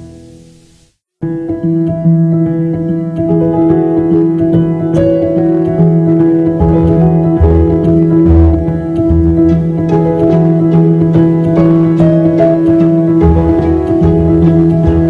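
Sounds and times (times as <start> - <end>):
keyboard-led instrumental music: 1.2 - 15.0.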